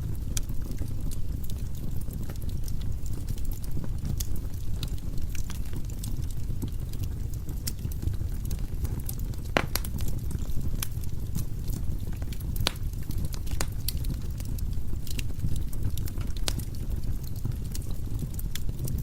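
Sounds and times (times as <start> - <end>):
flames low rumble: 0.0 - 19.0
logs crackling and popping: 0.0 - 19.0.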